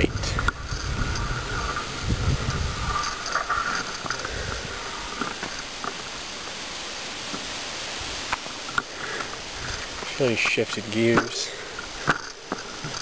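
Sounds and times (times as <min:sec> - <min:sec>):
bicycle riding rush: 0:00.0 - 0:13.0.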